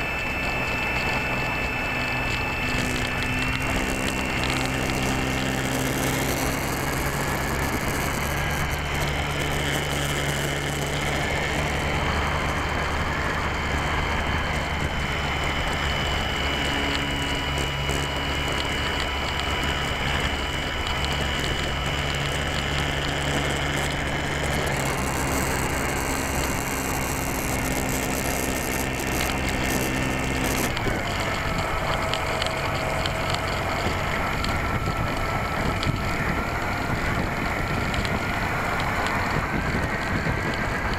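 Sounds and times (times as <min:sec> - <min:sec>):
model plane motor whine: 0:00.0 - 0:40.9.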